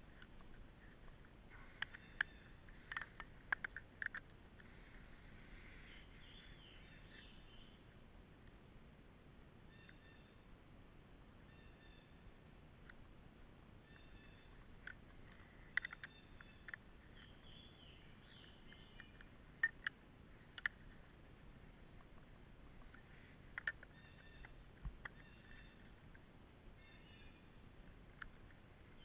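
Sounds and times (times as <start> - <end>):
faint bird chirping: 0.0 - 8.0, 9.6 - 10.5, 11.4 - 12.4, 13.8 - 27.8, 28.6 - 29.0.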